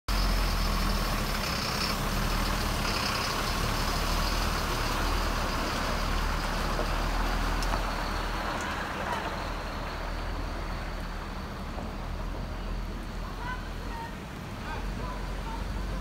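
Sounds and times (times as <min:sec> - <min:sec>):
diesel lorry engine idling: 0:00.1 - 0:16.0.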